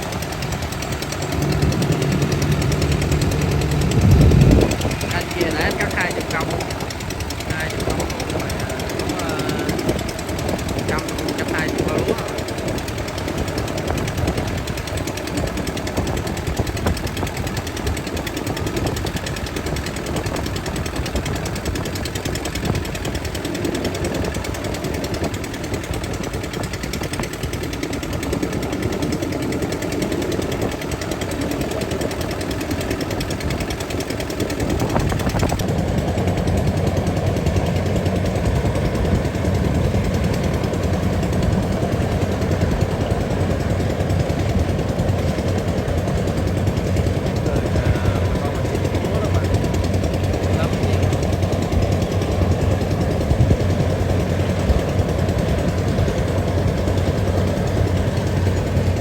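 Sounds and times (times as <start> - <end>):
combine harvester clattering: 0.0 - 59.0.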